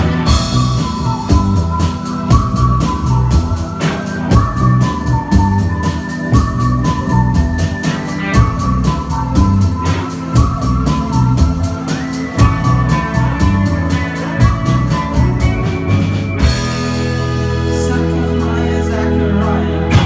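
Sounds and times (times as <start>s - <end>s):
drum beat: 0.0s - 17.1s
keyboard notes: 0.0s - 20.0s
live band playing: 0.0s - 20.0s.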